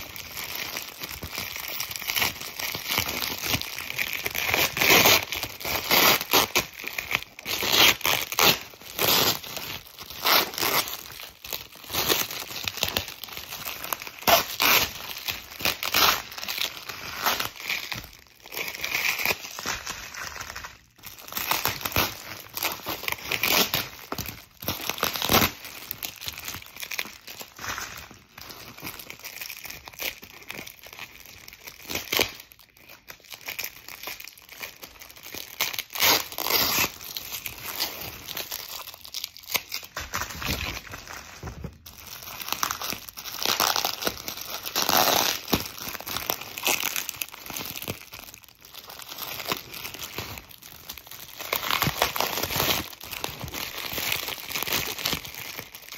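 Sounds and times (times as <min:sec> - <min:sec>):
plastic packaging crinkling: 0:00.0 - 0:55.9.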